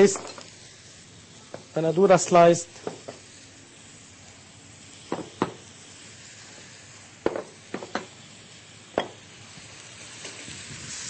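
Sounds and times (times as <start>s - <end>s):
onion frying in oil: 0.0s - 11.0s.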